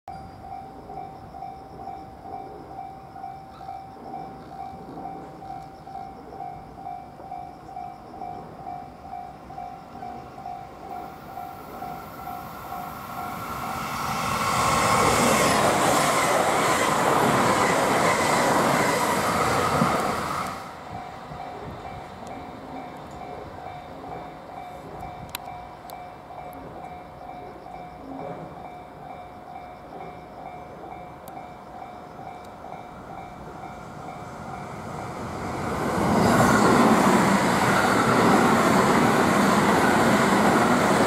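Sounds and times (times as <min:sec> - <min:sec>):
diesel train passing: 0:00.2 - 0:41.0.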